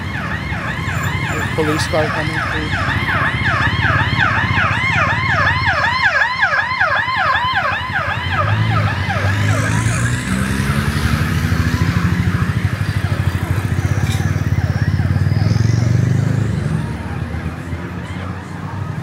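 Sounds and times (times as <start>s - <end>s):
police siren yelping: 0.0s - 19.0s
traffic engine rumble: 0.0s - 19.0s.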